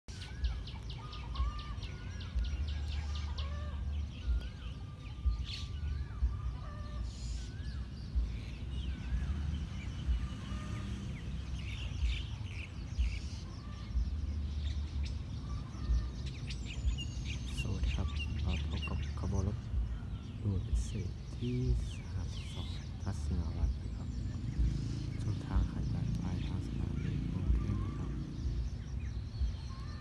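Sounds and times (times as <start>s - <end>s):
birds whistling calls: 0.1s - 30.0s
high ticking bird chirps: 0.1s - 30.0s
low rumble with pulses: 0.4s - 30.0s.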